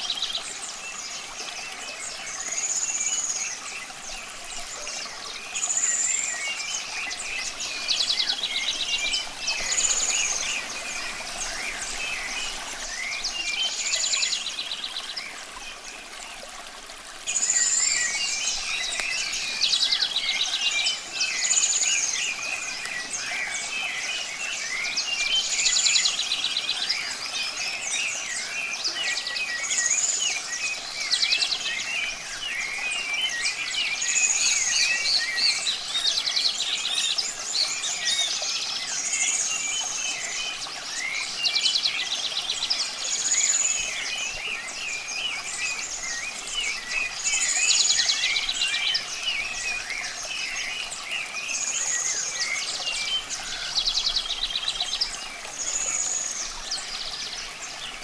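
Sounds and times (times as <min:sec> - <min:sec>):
running water hiss: 0:00.0 - 0:58.0.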